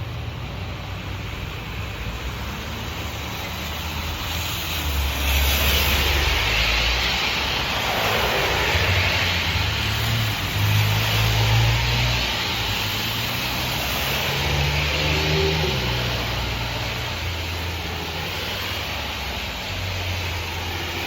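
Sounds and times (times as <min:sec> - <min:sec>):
tyre hiss on wet road: 0:00.6 - 0:21.0.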